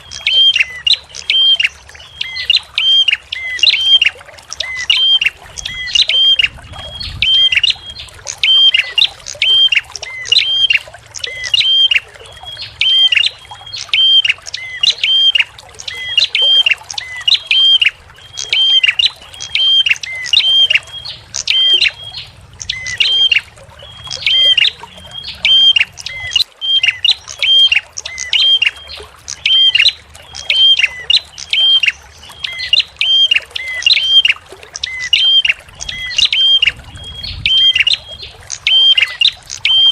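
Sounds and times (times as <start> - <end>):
faint trickling water: 0.0 - 39.9.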